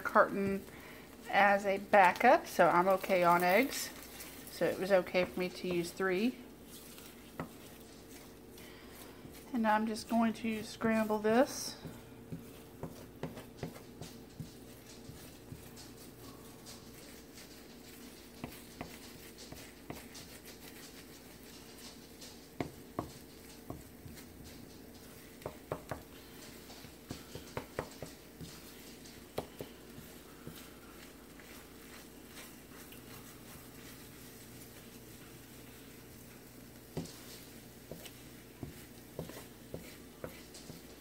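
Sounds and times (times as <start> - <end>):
faint steady hum: 0.0 - 41.0
spatula scraping and tapping wok: 0.0 - 41.0.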